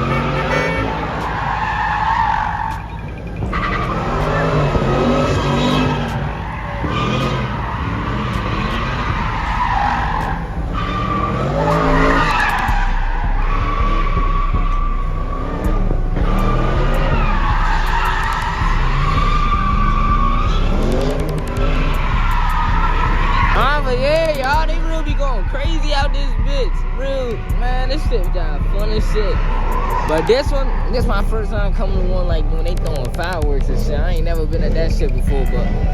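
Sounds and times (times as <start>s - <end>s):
car engine revving: 0.0s - 35.9s
car tyres squealing: 0.0s - 35.9s.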